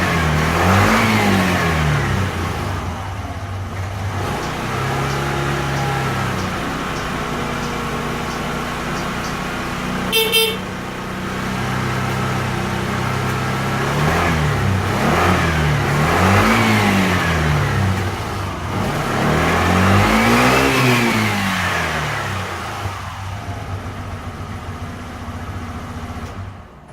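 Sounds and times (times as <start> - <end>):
scooter engine idling and revving: 0.0 - 26.9.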